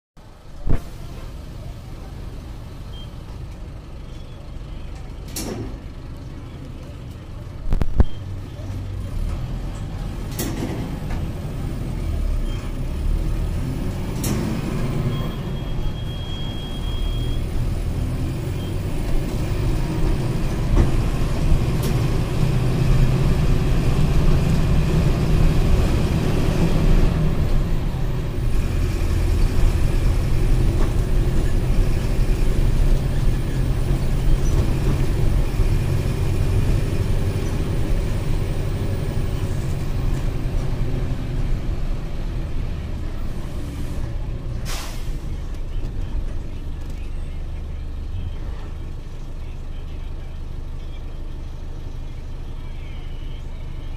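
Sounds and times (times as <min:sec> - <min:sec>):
diesel bus engine running: 0:00.2 - 0:53.9.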